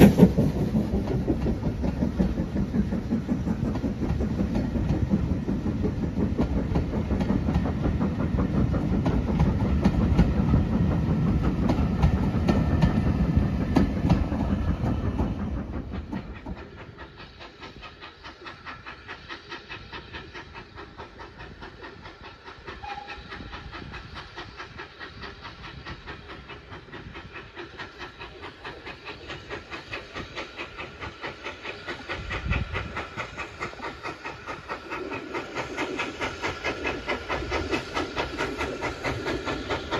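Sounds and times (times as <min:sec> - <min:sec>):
railway carriages rolling past: 0:00.0 - 0:39.9
steam locomotive exhaust beat: 0:00.0 - 0:39.9
wheels clicking over rail joints: 0:00.0 - 0:39.9.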